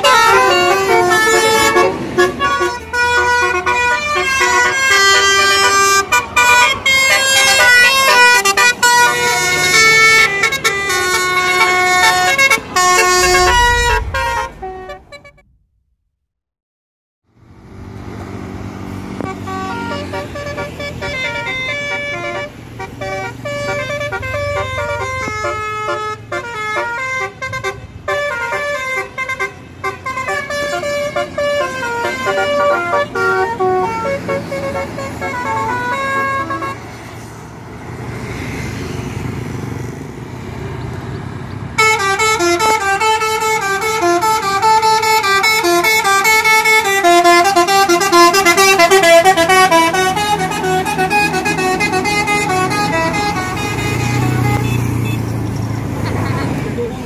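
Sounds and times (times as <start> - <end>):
musical bus air horns: 0.0 - 15.6, 19.1 - 37.3, 41.8 - 55.3, 55.9 - 56.9.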